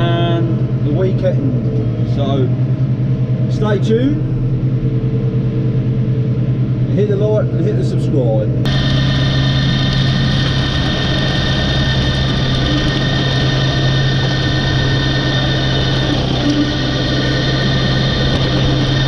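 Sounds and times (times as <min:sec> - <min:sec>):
constant low hum: 0:00.0 - 0:19.0
tractor and flail mower running: 0:00.0 - 0:19.0.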